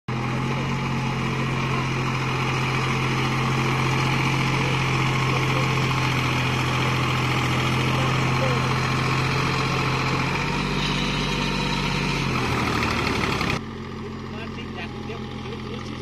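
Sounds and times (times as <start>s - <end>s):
tractor diesel engine running: 0.1s - 16.0s.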